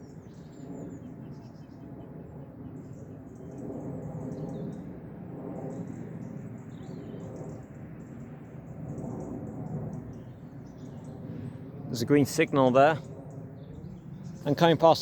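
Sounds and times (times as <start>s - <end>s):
small birds chirping: 0.0s - 4.9s, 5.6s - 15.0s.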